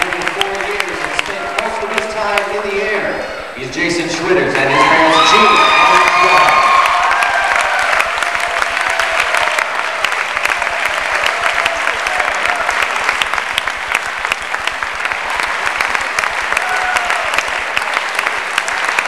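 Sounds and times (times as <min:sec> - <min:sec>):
crowd clapping: 0:00.0 - 0:03.0, 0:04.4 - 0:19.0.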